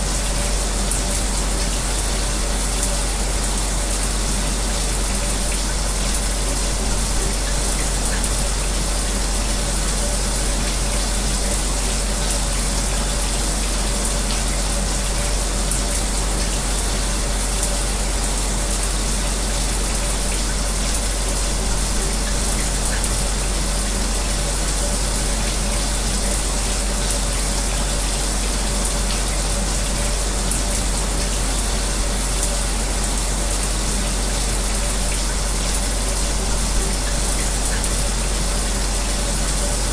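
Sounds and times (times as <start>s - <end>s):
electric fan humming: 0.0s - 39.9s
shower spray running: 0.0s - 39.9s.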